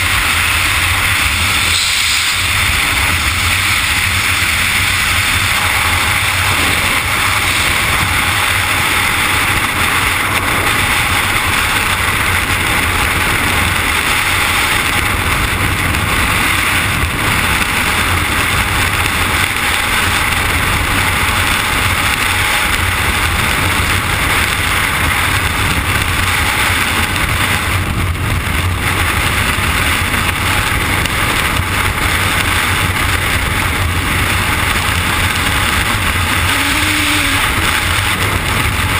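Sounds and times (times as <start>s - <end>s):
loud wind noise on microphone: 0.0s - 38.9s.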